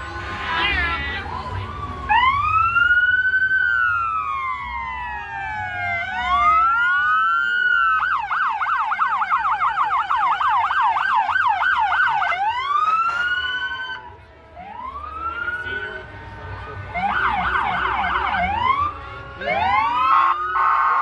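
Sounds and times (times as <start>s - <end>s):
fire truck sirens wailing and yelping: 0.0s - 21.0s.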